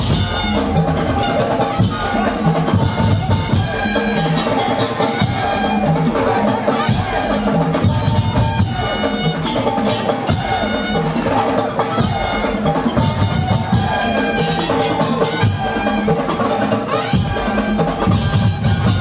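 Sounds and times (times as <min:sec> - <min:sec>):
loud drums: 0:00.0 - 0:19.0.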